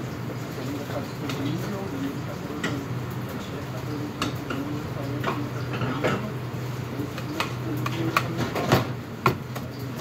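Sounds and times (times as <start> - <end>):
kitchen ventilation hum: 0.0 - 10.0
pots clanking on metal counter: 0.0 - 10.0.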